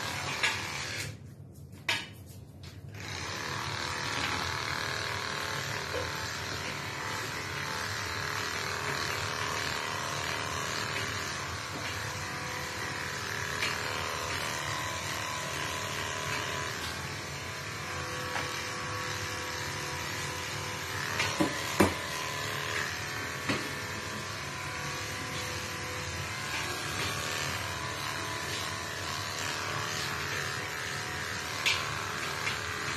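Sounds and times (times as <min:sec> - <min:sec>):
electric grooming motor whirring: 0:00.0 - 0:01.2, 0:02.9 - 0:32.9.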